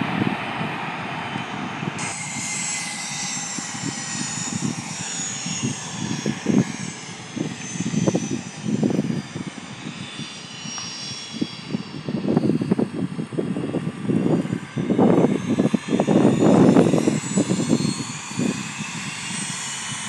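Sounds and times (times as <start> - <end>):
distant aircraft turbines whining: 0.0 - 20.0
wind buffeting microphone: 0.0 - 20.0.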